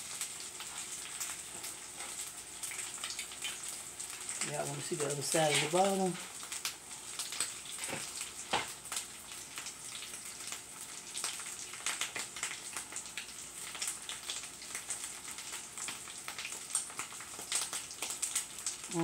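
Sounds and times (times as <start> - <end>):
crackles and pops: 0.0 - 19.0
food sizzling in oil: 0.0 - 19.0.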